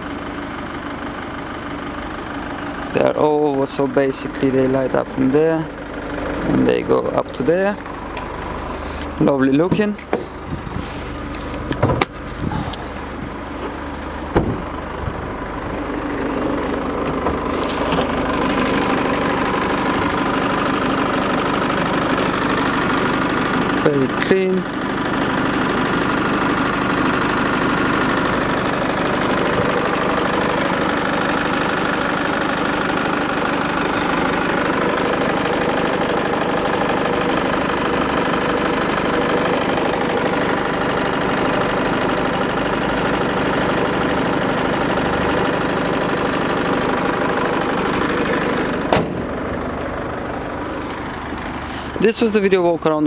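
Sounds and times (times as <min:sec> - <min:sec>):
diesel engine idling: 0:00.0 - 0:53.0
engine switch-off click: 0:07.4 - 0:24.0, 0:24.8 - 0:52.1.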